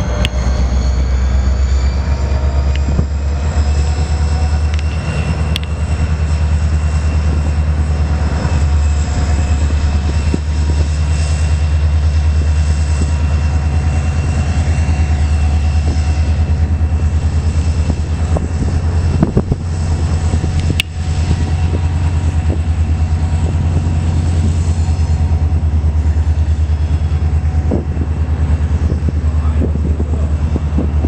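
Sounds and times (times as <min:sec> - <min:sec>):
diesel locomotive engine throbbing: 0:00.0 - 0:31.0.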